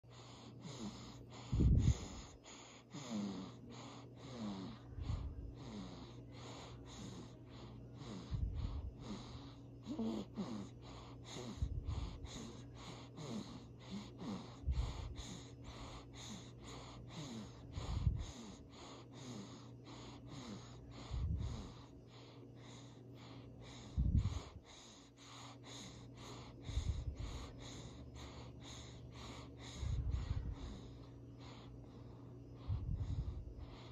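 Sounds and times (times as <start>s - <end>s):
baby snoring: 0.1s - 33.9s.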